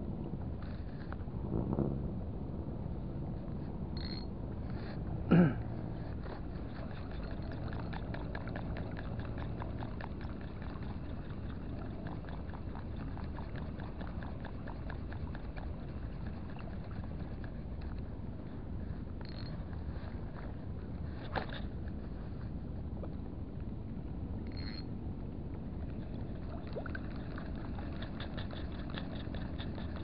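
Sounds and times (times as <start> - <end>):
water noise: 0.0 - 22.4, 23.9 - 30.0
wind: 0.0 - 30.0.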